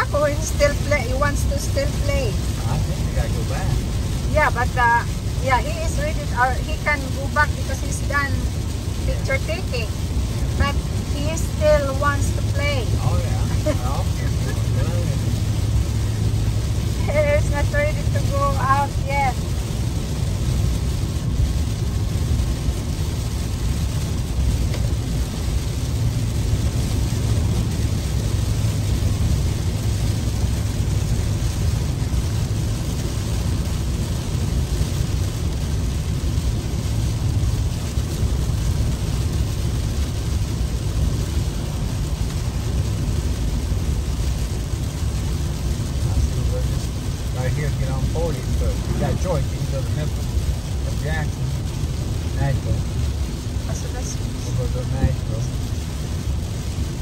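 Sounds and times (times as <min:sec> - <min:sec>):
car road rumble: 0:00.0 - 0:57.0
rain on car: 0:00.0 - 0:57.0
tyres hissing on wet road: 0:00.0 - 0:57.0.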